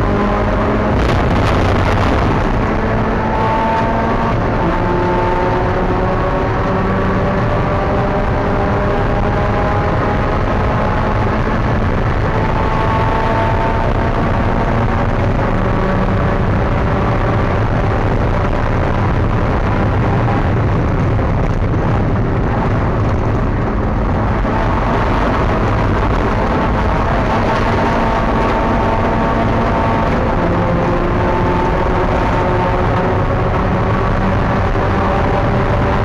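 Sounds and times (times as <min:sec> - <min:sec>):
race car engine running hard: 0:00.0 - 0:36.0
road and wind noise: 0:00.0 - 0:36.0.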